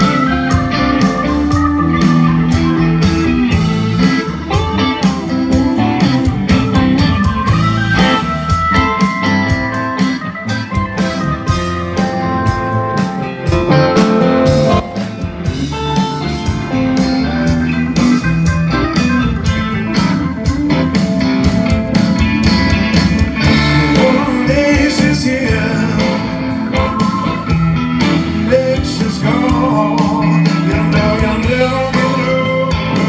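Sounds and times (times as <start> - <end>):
blues-rock band playing: 0.0 - 33.0.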